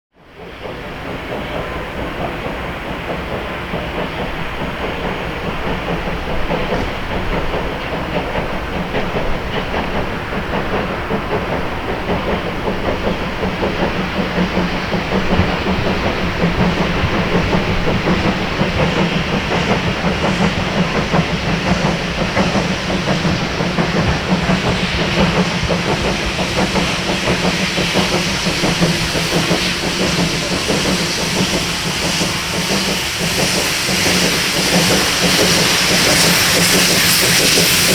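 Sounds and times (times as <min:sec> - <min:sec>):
train wheels clattering on rails: 0:00.2 - 0:37.9
steam hissing: 0:00.3 - 0:37.9.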